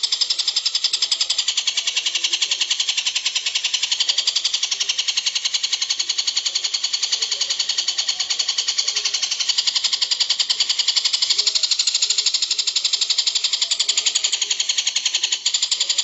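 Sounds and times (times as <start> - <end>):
songbird chirping rapidly: 0.0 - 16.0.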